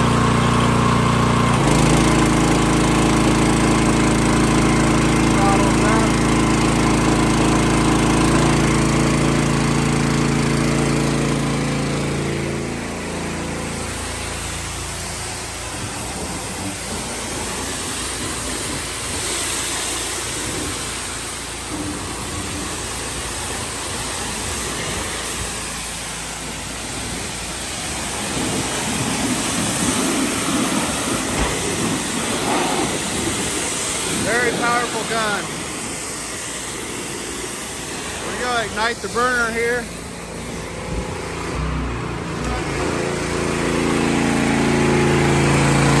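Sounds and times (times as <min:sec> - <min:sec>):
high-pressure water spray hissing: 0:00.0 - 0:46.0
pressure washer engine running: 0:00.0 - 0:46.0.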